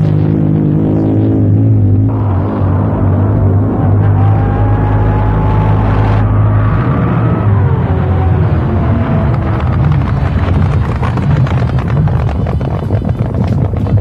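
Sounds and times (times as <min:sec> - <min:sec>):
boat engine roaring: 0:00.0 - 0:14.0.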